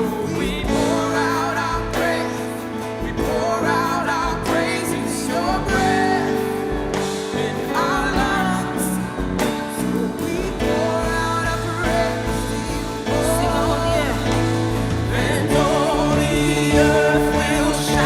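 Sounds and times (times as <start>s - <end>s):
band playing sustained guitar chords: 0.0s - 18.0s
person singing: 0.0s - 18.0s.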